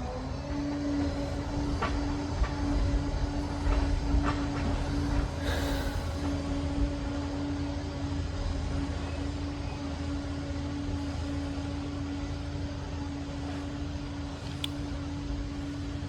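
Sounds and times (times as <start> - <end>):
bulldozer diesel rumble: 0.0 - 16.0
constant machine whine: 0.0 - 16.0.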